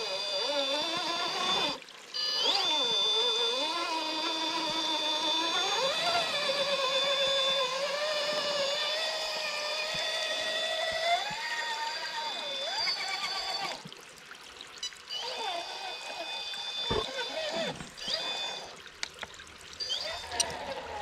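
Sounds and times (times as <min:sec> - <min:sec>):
toy car motor whine: 0:00.0 - 0:13.9, 0:14.8 - 0:18.8, 0:19.8 - 0:21.0.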